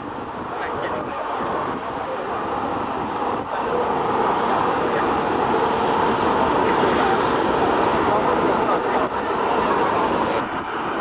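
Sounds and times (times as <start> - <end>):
jet engines rumbling: 0.0 - 10.9
jet engine whine: 0.0 - 11.0.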